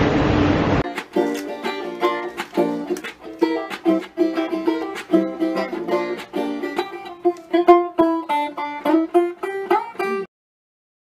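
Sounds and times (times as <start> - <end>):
plucked string instrumental music: 0.8 - 10.3.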